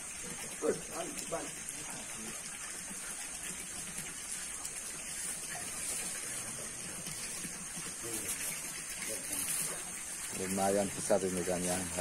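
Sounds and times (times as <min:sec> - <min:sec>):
water hissing: 0:00.0 - 0:12.0.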